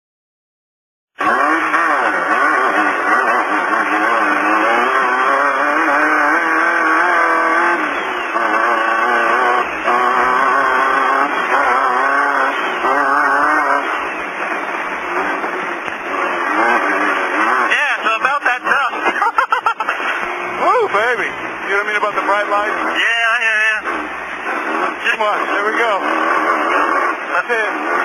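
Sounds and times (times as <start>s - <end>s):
race car engine revving: 1.2s - 28.0s.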